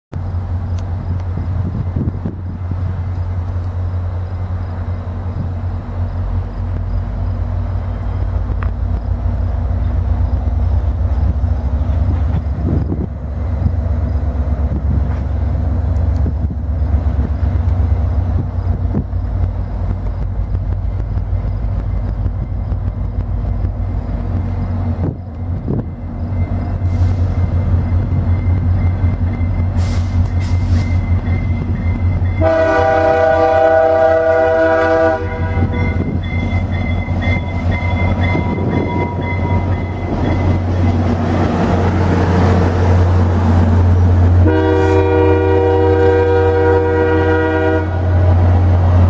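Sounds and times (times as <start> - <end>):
diesel locomotive rumbling: 0.1 - 49.0.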